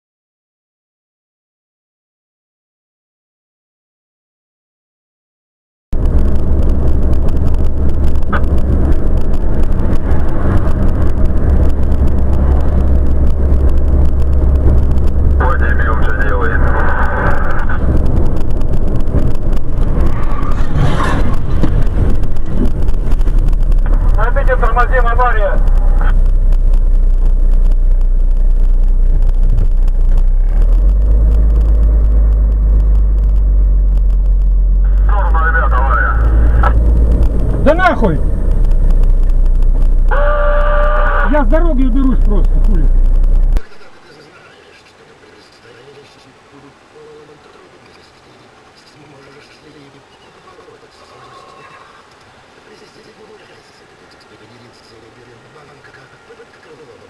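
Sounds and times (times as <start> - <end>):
engine and road rumble: 5.9 - 57.0.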